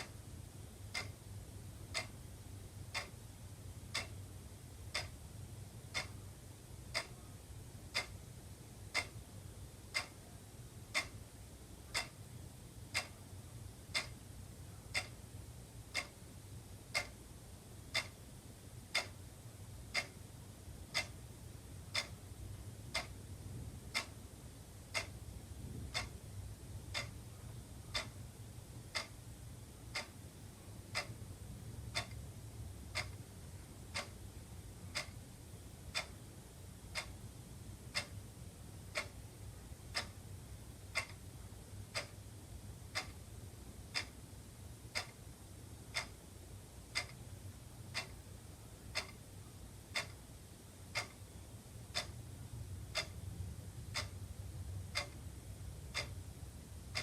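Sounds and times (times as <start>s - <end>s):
faint low hum: 0.0s - 57.0s
wall clock ticking: 0.0s - 57.0s.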